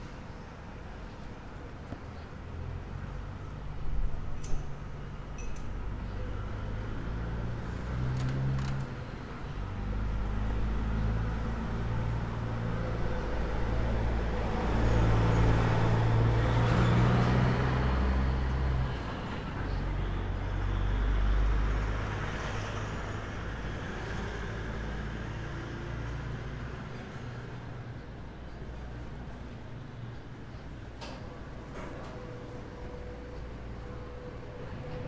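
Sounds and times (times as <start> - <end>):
traffic engines humming: 0.0 - 35.0.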